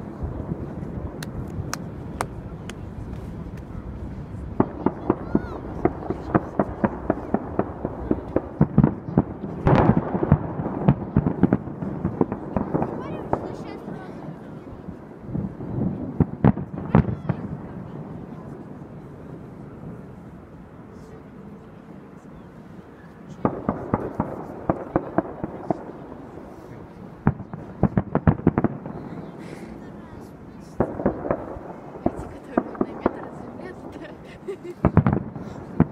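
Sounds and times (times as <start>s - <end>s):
firework crackling: 0.0s - 20.4s, 23.3s - 35.9s.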